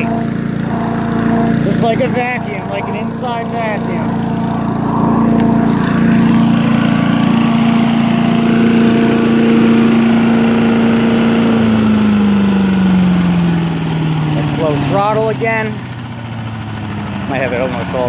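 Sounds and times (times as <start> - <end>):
leaf vacuum engine running: 0.0 - 18.0.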